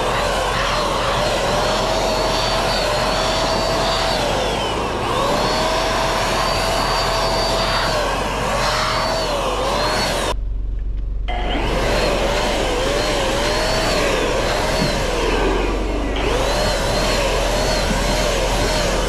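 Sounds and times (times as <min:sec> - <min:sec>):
electric paint sprayer whining: 0:00.0 - 0:10.4, 0:11.3 - 0:19.0.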